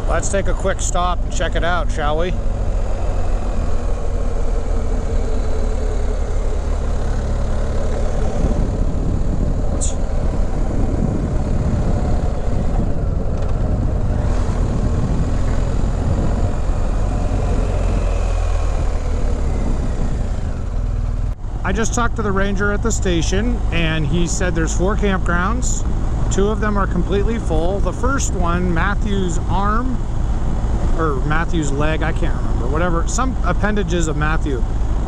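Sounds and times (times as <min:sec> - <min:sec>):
motorcycle engine running: 0:00.0 - 0:35.0
wind noise: 0:00.0 - 0:35.0.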